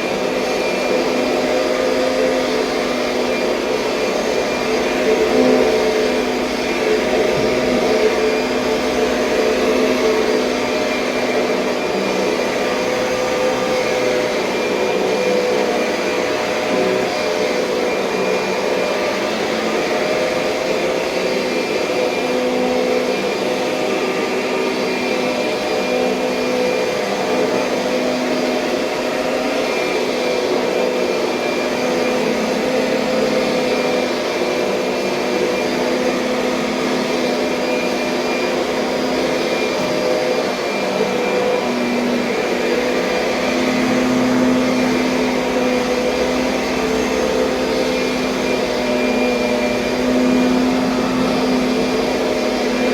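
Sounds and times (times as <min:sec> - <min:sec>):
upright vacuum cleaner running: 0:00.0 - 0:52.9.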